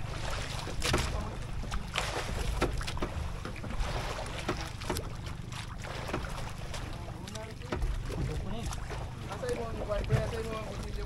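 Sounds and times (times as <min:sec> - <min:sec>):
boat engine rumble: 0:00.0 - 0:11.0
water splashing against hull: 0:00.0 - 0:11.0.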